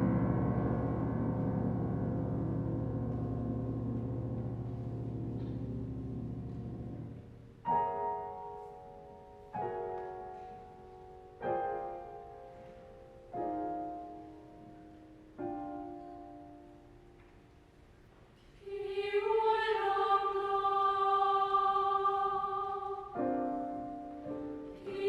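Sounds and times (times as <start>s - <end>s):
grand piano chords: 0.0s - 25.0s.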